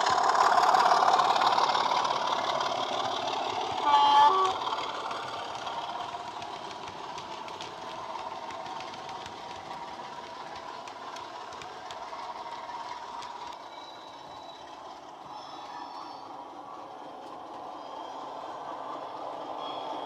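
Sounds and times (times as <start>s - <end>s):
recorded diesel engine through speakers: 0.0s - 20.0s.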